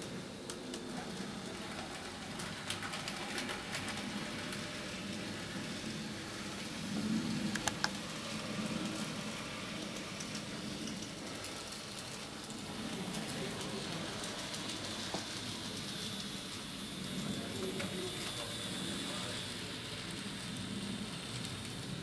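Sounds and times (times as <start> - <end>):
model train humming: 0.0 - 22.0
model train wheels clicking: 0.0 - 22.0.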